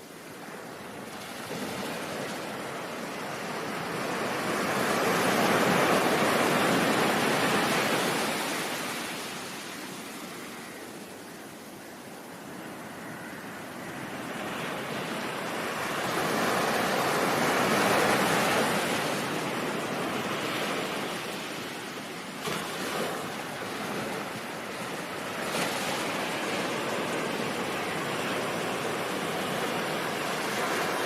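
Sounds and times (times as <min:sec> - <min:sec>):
ocean waves breaking: 0:00.0 - 0:10.7, 0:12.4 - 0:31.0.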